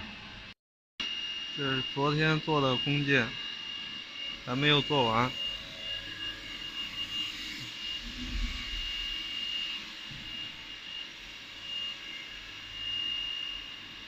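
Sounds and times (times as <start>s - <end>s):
machinery high-pitched whine: 0.0s - 14.0s.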